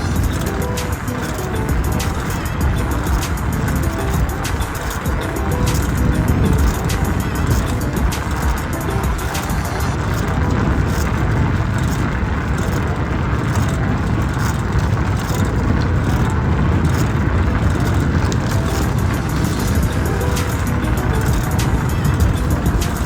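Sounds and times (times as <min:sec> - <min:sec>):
faint clicks: 0:00.0 - 0:23.0
rolling noise: 0:00.0 - 0:23.0
wind rumble on microphone: 0:00.0 - 0:23.0.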